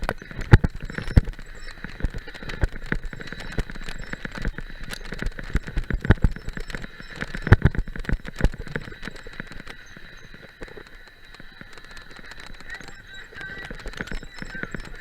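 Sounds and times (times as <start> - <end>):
mountain bike rattling and knocking: 0.0 - 15.0.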